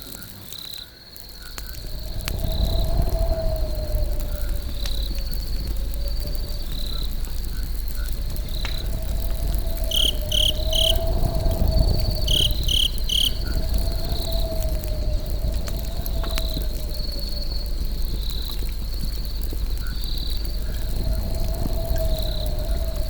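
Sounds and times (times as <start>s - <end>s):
campfire rumble and crackle: 0.0s - 23.0s
crickets chirping: 0.0s - 23.0s.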